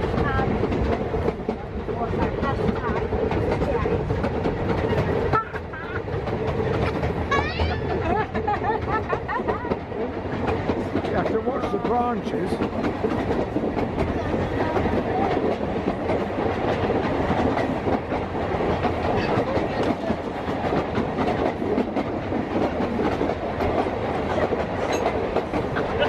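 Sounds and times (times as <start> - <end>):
train rumbling on track: 0.0 - 26.0
wheels clacking over rail joints: 0.0 - 26.0.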